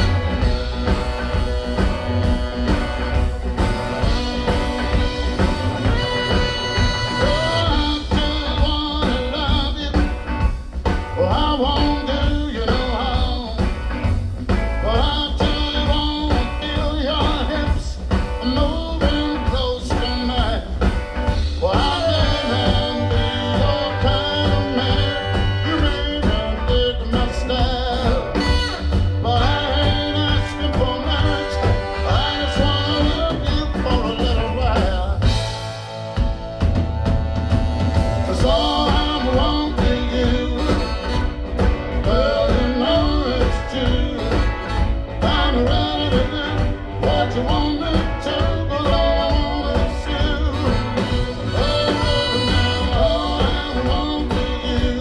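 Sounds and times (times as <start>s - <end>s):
blues band playing: 0.0s - 55.0s
horn section: 0.0s - 55.0s
man singing: 4.0s - 10.4s, 11.0s - 13.8s, 14.8s - 35.5s, 38.2s - 55.0s.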